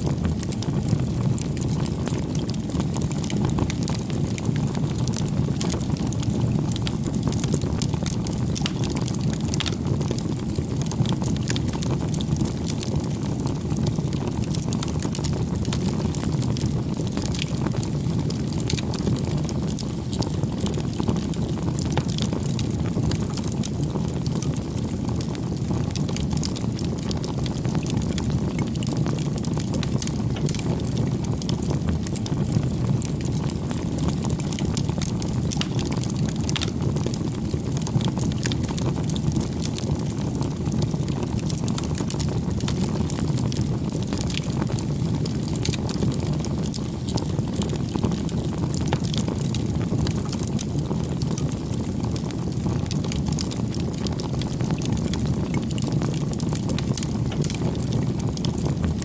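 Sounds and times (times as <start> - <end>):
burning wood crackling and popping: 0.0 - 59.0
campfire flames rushing: 0.0 - 59.0.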